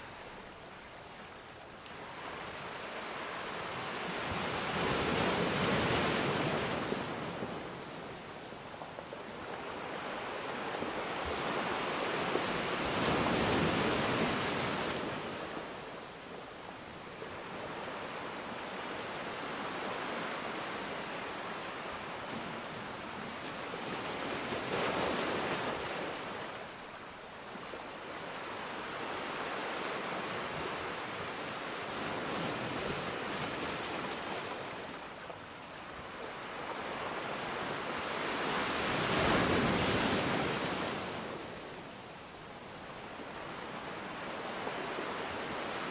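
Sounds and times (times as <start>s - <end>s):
sea waves breaking on a beach: 0.0s - 45.9s.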